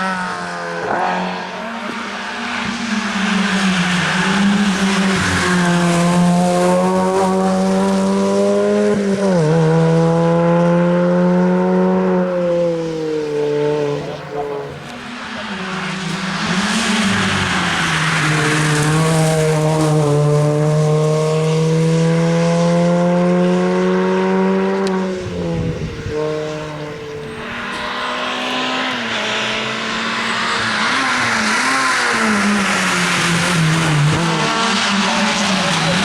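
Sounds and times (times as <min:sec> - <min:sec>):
loud tyre noise: 0:00.0 - 0:36.0
rally car engine at full throttle: 0:00.0 - 0:36.0.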